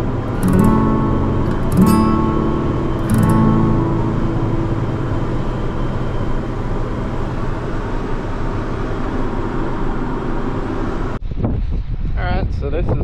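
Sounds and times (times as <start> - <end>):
diesel engine droning: 0.0 - 11.2.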